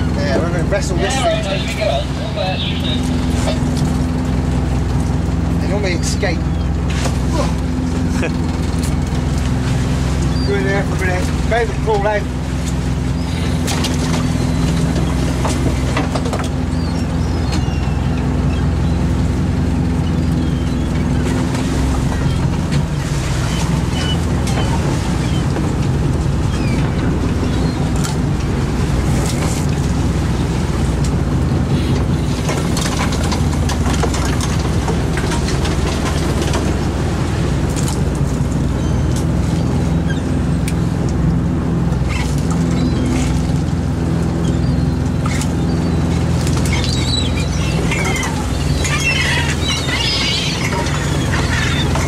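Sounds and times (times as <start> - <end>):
boat engine and net hauler: 0.0 - 52.0
gulls calling: 0.0 - 52.0.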